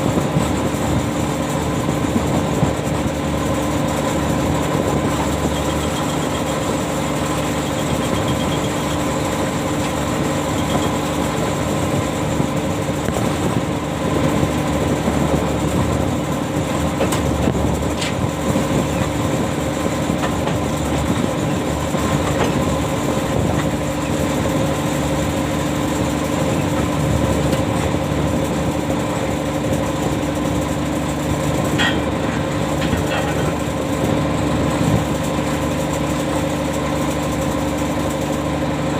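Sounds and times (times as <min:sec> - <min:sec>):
ship machinery humming: 0:00.0 - 0:38.9.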